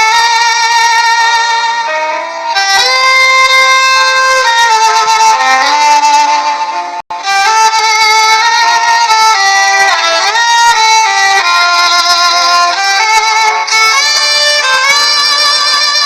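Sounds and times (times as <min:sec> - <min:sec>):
violin playing slow melody: 0:00.0 - 0:16.0.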